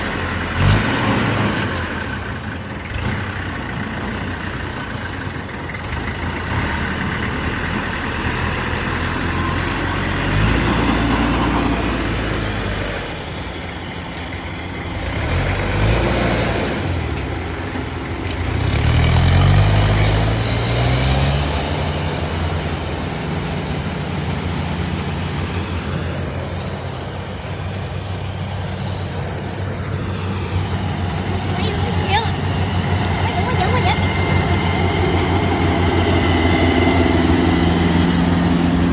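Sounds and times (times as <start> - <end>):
combine harvester engine: 0.0 - 38.9
tractor engine revving: 0.0 - 38.9.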